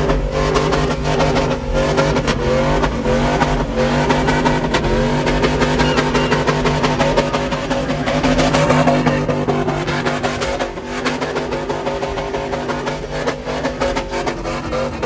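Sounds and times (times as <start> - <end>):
vehicle engines revving: 0.0 - 15.0.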